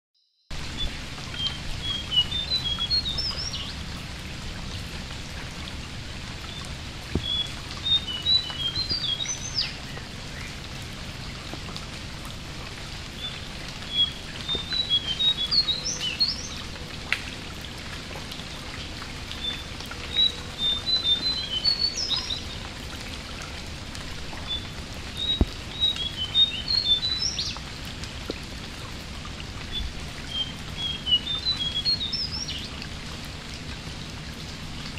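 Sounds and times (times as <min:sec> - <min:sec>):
rain pattering on water: 0:00.5 - 0:34.9.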